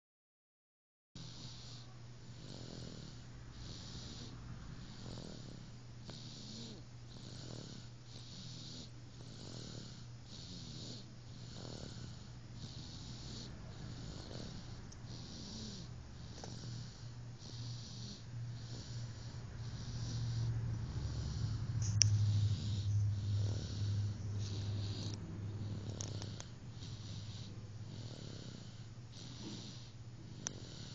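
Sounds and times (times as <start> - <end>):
snoring: 1.2 - 30.9
steady low hum: 1.2 - 30.9.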